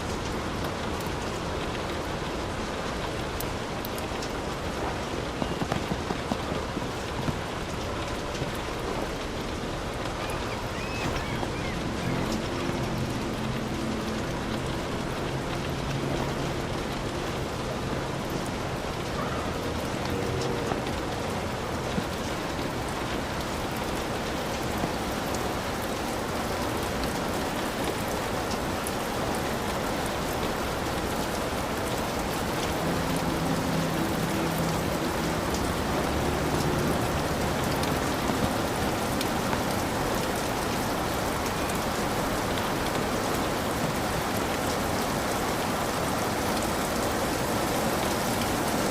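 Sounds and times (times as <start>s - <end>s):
heavy rain pouring: 0.0s - 48.9s
raindrops ticking: 0.0s - 48.9s.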